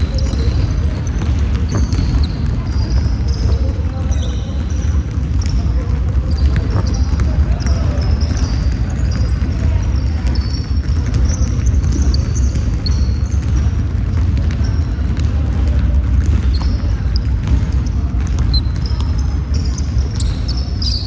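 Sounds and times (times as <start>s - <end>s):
basketball bouncing: 0.0s - 21.0s
sneakers squeaking on floor: 0.0s - 21.0s.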